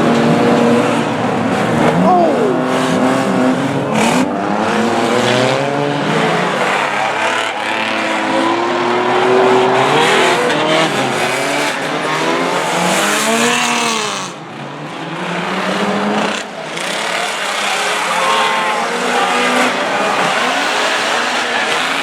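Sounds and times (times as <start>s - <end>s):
racing car engines revving: 0.0s - 22.0s.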